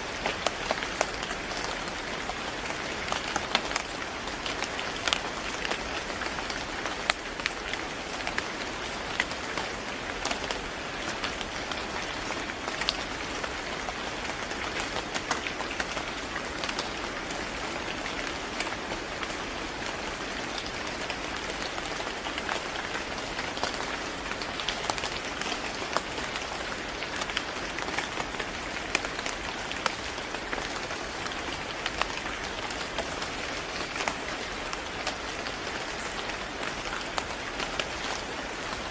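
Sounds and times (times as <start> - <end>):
rain on a hard surface: 0.0 - 38.9.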